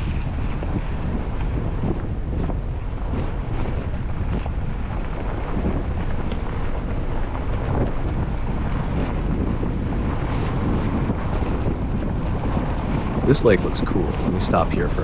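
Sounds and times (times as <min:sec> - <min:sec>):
road and engine rumble: 0:00.0 - 0:15.0
wind buffeting microphone: 0:00.0 - 0:15.0.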